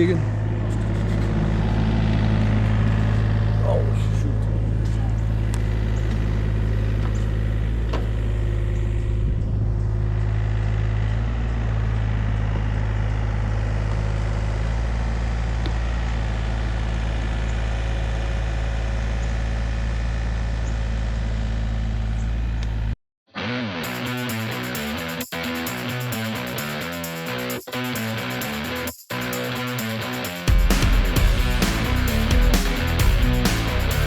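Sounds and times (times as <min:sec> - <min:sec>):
excavator diesel engine running: 0:00.0 - 0:23.0, 0:23.8 - 0:34.0.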